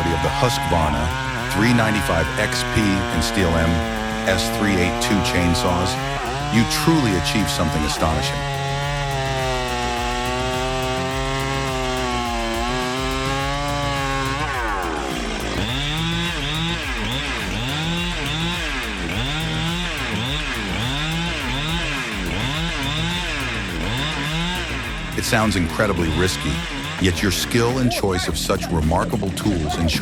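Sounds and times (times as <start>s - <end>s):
chainsaw running at high revs: 0.0s - 30.0s.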